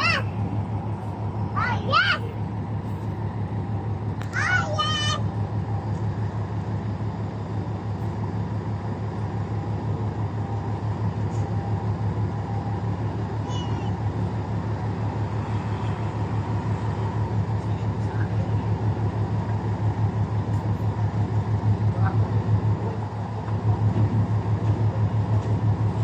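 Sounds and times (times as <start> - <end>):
ship engine throbbing: 0.0 - 26.0.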